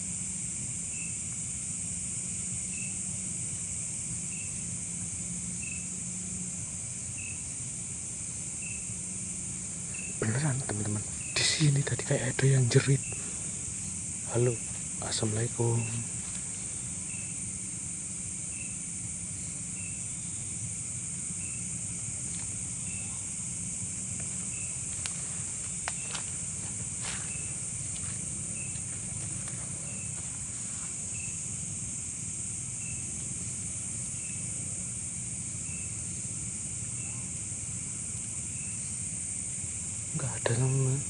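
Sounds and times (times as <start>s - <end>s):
low steady rumble: 0.0s - 40.6s
high insect chorus: 0.0s - 41.0s
short insect chirp: 0.0s - 41.0s.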